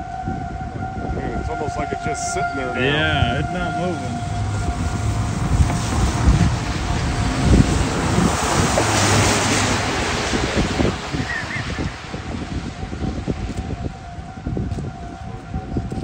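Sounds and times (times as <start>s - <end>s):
faint warning siren: 0.0s - 16.0s
wind buffeting microphone: 0.0s - 16.0s.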